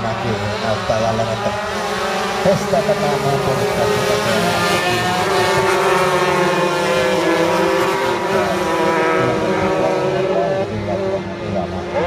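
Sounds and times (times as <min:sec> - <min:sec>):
kart engines racing: 0:00.0 - 0:12.0.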